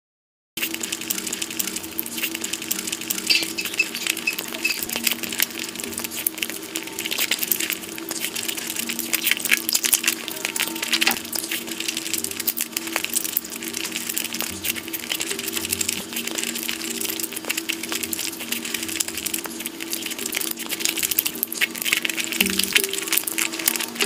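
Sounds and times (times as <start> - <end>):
faint steady hum: 0.7 - 24.0.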